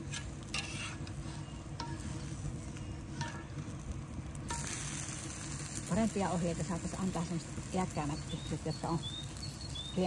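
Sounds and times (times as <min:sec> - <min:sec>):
batter sizzling on griddle: 0:00.0 - 0:10.0.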